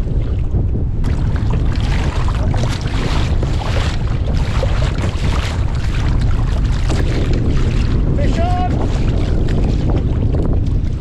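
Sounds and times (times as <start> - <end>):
water splashing against kayak: 0.0 - 11.0
wind buffeting microphone: 0.0 - 11.0.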